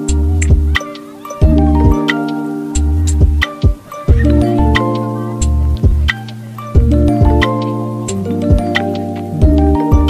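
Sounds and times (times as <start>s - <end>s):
bass line: 0.0s - 0.8s, 1.4s - 2.1s, 2.7s - 3.5s, 4.1s - 10.0s
melody of ringing notes: 0.0s - 10.0s
steady beat: 0.0s - 10.0s.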